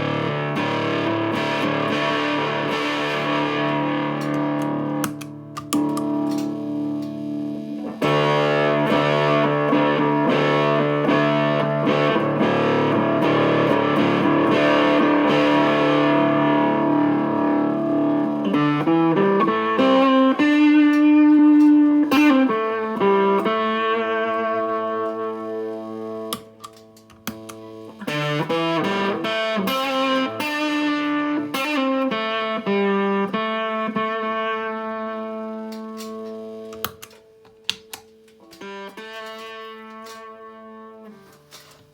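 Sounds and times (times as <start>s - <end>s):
fuzzed electric guitar: 0.0s - 41.9s.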